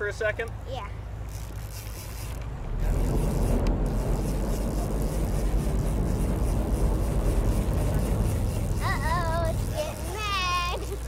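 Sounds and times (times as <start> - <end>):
wind: 0.0 - 11.0
boat engine rumble: 0.9 - 11.0.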